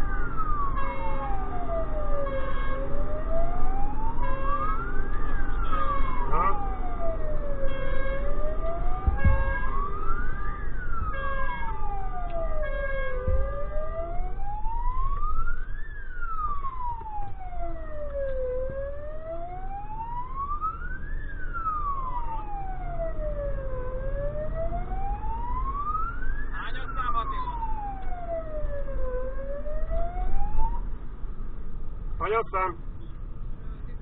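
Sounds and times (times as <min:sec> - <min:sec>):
siren wailing: 0:00.0 - 0:31.0.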